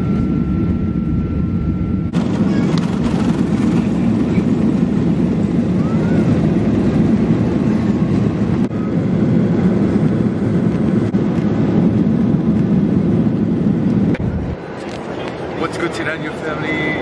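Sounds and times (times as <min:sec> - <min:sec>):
jet engine rumble and rushing air: 0:00.0 - 0:17.0.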